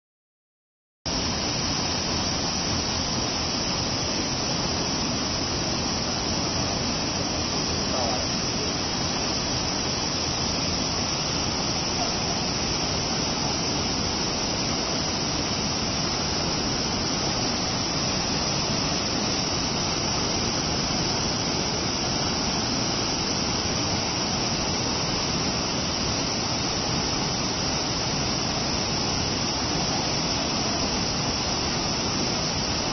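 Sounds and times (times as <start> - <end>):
waterfall rushing: 1.1 - 32.9.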